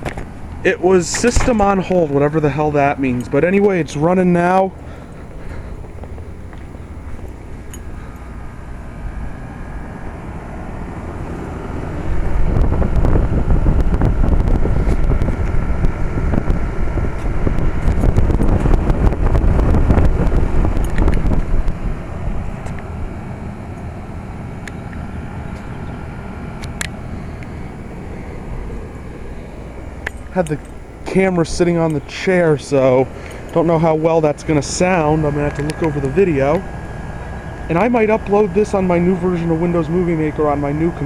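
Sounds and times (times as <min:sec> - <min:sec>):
heat pump unit running: 0:00.0 - 0:41.0
wind buffeting microphone: 0:00.0 - 0:41.0.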